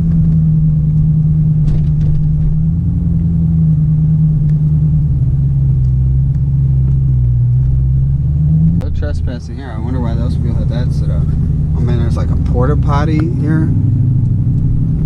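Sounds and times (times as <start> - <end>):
car engine low drone: 0.0 - 15.0.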